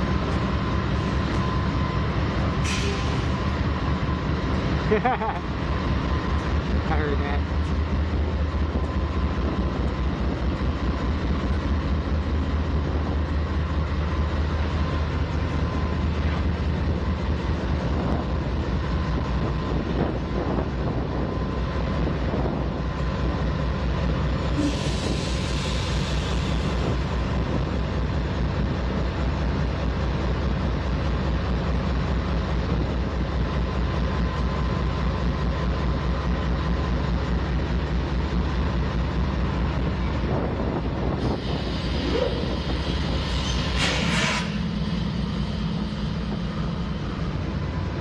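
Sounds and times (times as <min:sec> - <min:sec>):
diesel locomotive idling: 0:00.0 - 0:48.0.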